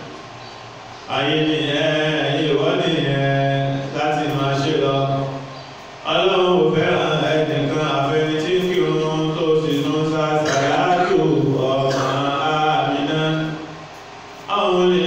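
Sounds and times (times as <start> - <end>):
man chanting into a microphone: 1.1 - 13.8, 14.5 - 15.0.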